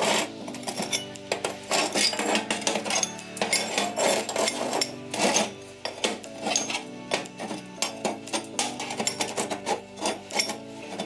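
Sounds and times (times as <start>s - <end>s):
background music: 0.0s - 11.0s
steel tubes scraping and clinking: 0.0s - 11.0s.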